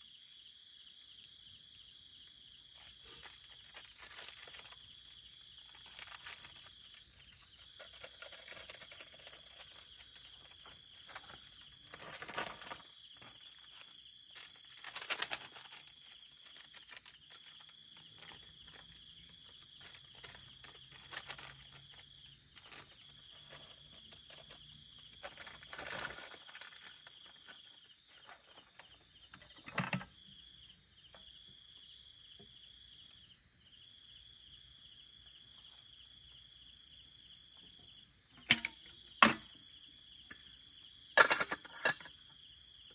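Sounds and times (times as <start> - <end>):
crickets and night insects chirring: 0.0 - 42.9.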